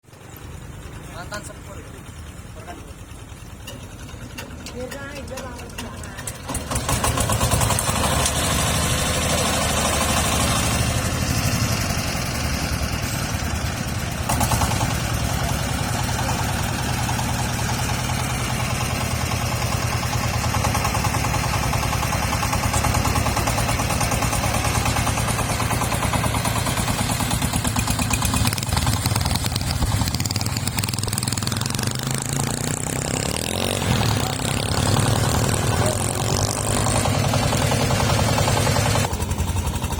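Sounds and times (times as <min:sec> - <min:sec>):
threshing machine engine running: 0:00.1 - 0:39.9.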